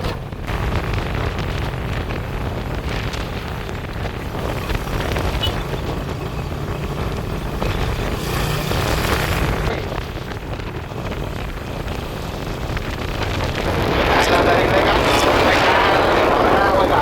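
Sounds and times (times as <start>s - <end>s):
motorbike engine and road rumble: 0.0s - 17.0s
wind on microphone: 0.0s - 17.0s.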